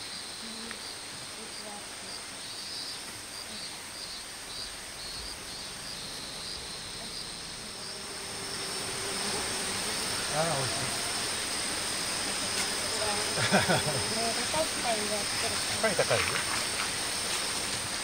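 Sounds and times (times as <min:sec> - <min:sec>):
faint hiss: 0:00.0 - 0:18.0
insect chirps: 0:00.0 - 0:18.0
insects buzzing: 0:00.0 - 0:18.0.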